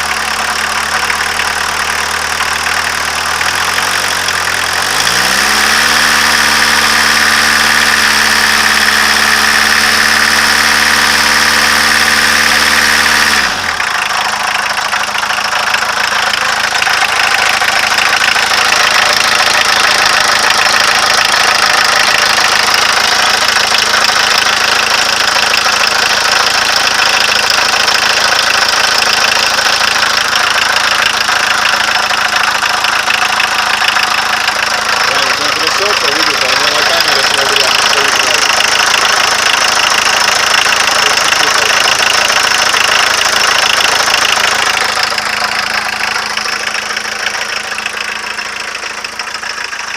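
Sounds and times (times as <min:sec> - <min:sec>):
diesel engine with knock: 0:00.0 - 0:49.9.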